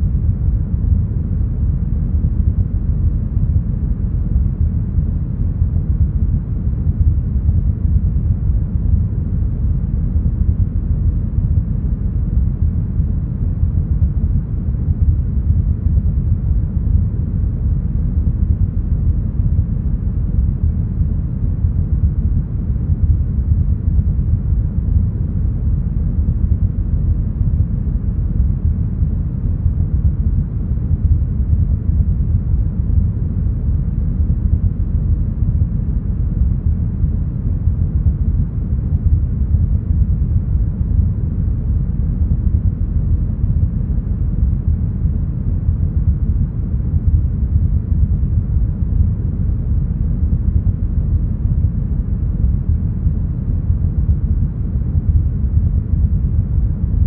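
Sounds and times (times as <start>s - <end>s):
deep brown noise: 0.0s - 57.0s.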